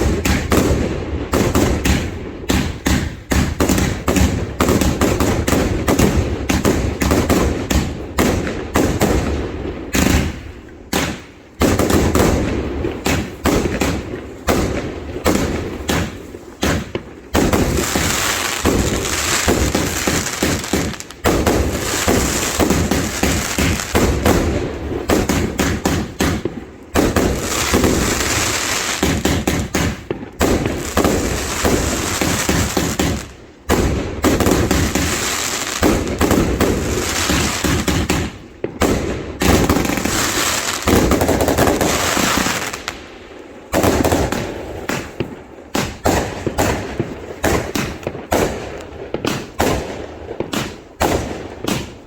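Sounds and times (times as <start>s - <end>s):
fireworks banging and crackling: 0.0s - 52.0s.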